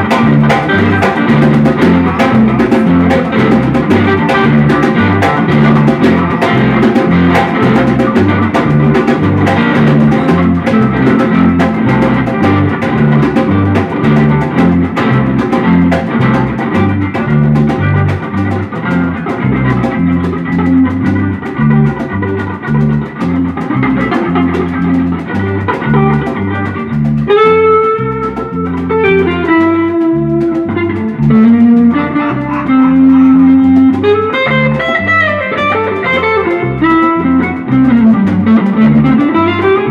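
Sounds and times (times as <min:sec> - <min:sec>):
instrumental band music: 0:00.0 - 0:39.9
lead melody of held notes: 0:00.0 - 0:39.9.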